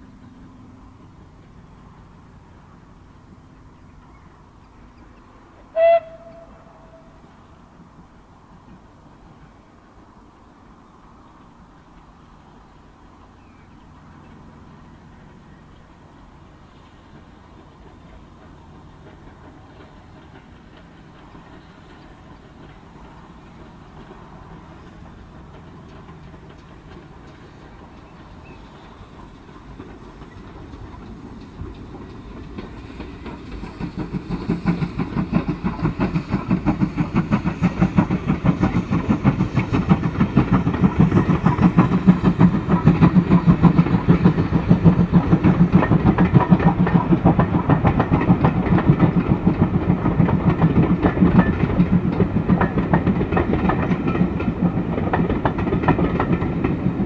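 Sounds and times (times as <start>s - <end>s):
steam locomotive passing: 0.0s - 57.0s.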